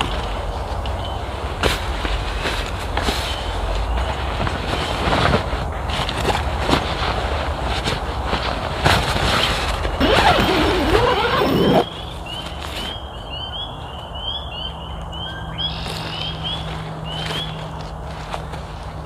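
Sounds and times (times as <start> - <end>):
camping gear rustling in tent: 0.0 - 13.4, 15.7 - 19.0.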